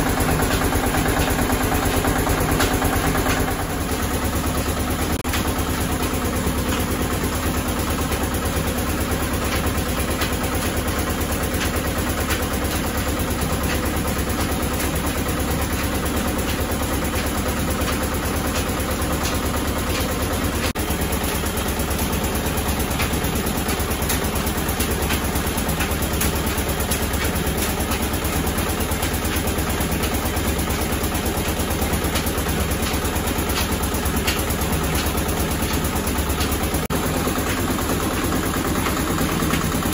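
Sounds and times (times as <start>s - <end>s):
fine mechanical clatter: 0.0s - 39.9s
oil press mechanical drone: 0.0s - 39.9s.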